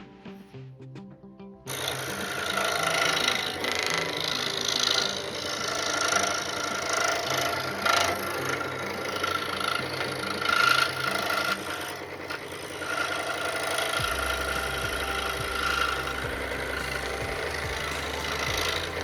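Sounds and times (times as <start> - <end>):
low hum: 1.6 - 19.0
power tool cutting wood: 1.7 - 19.0.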